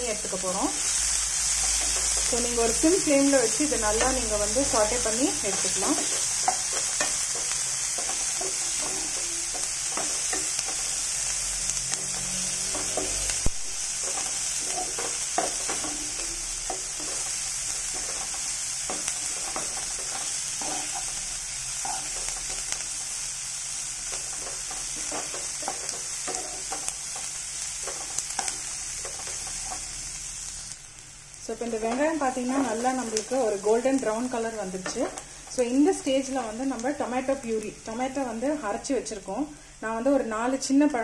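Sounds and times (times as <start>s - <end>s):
onions sizzling in oil: 0.0s - 41.0s.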